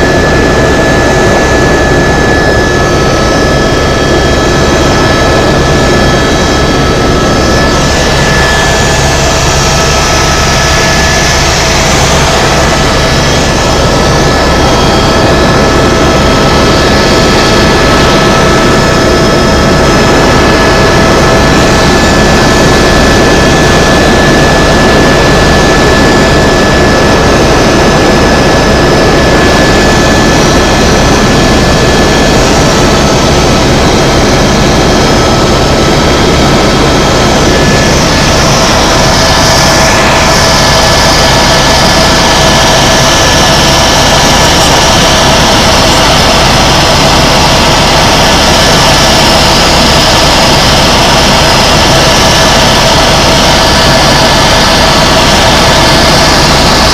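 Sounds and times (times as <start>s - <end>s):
helicopter engine and rotor: 0.0s - 56.9s.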